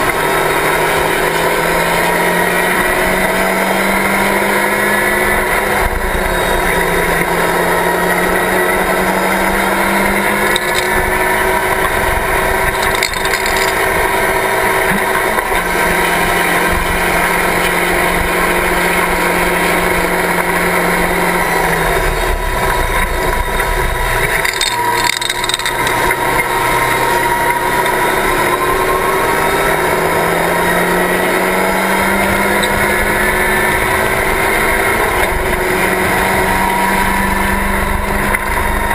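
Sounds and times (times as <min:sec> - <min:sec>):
race car engine at high revs: 0:00.0 - 0:38.9
wind and road noise: 0:00.0 - 0:38.9.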